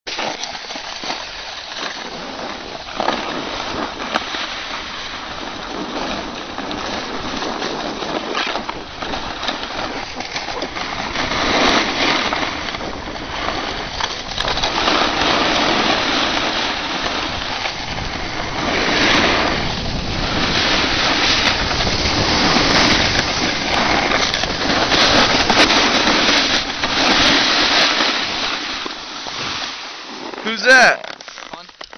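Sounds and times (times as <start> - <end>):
snowboard scraping on snow: 0.1 - 31.8
wind rushing over microphone: 2.0 - 29.7.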